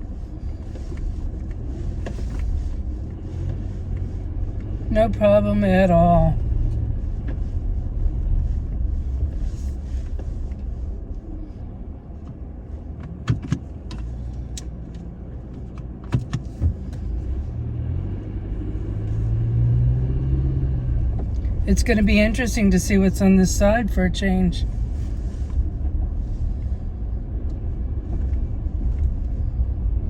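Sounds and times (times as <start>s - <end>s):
pickup engine and road rumble: 0.0s - 30.0s.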